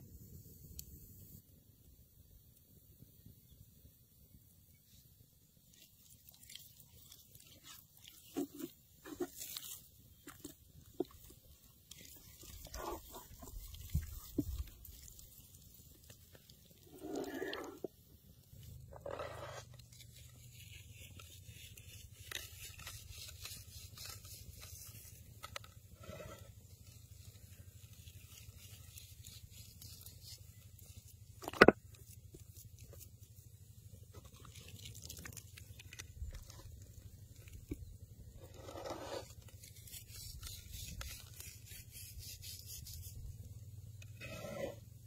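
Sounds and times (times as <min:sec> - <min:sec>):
hand rubbing salt into meat: 0:05.4 - 0:44.8.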